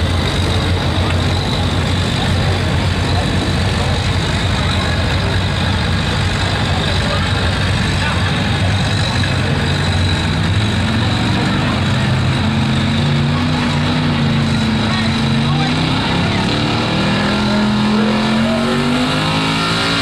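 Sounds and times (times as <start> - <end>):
truck engine under load: 0.0 - 20.0.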